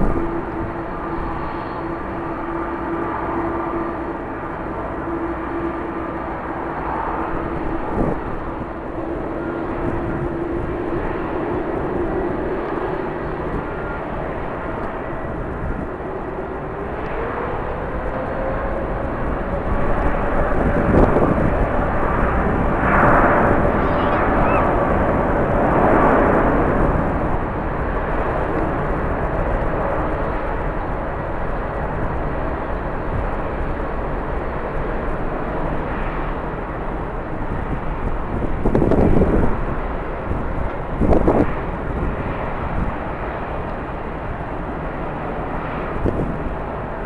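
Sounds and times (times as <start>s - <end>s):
jet airliner engines running: 0.0s - 47.0s.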